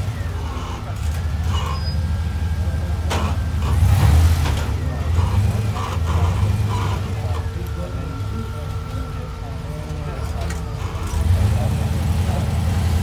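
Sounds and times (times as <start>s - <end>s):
buggy engine rumbling: 0.0s - 13.0s.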